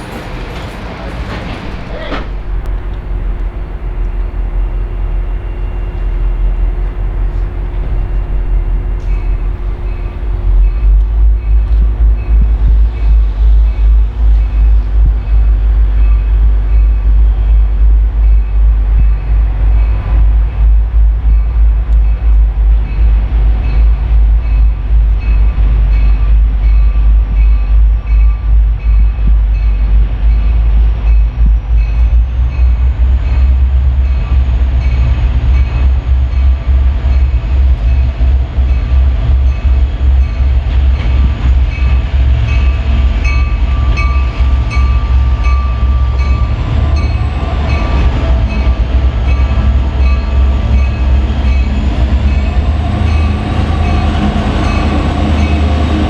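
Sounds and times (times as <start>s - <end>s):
rail and wheel noise: 0.0s - 56.0s
train rumbling: 0.0s - 56.0s.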